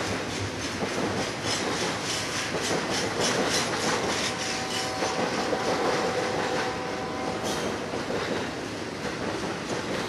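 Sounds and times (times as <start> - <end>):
train wheels clattering over rails: 0.0 - 10.0.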